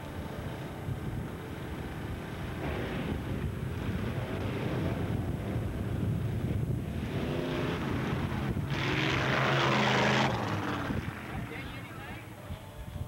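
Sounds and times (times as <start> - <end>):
engines at full throttle: 0.0 - 12.3
vehicles rushing past: 0.0 - 12.4.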